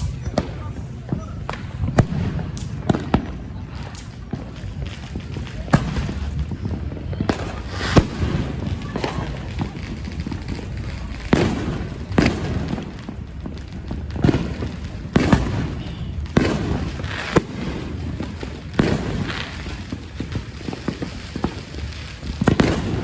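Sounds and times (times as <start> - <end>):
fireworks bangs: 0.0 - 23.0
crackling hiss: 3.8 - 23.0.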